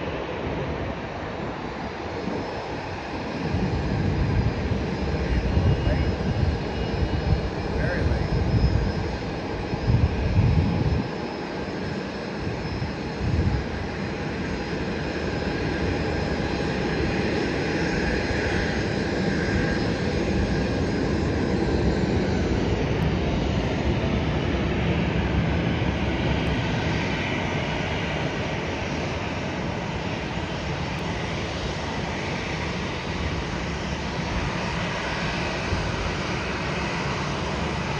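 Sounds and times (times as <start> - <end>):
jet airliner roar with whine: 0.0 - 37.9.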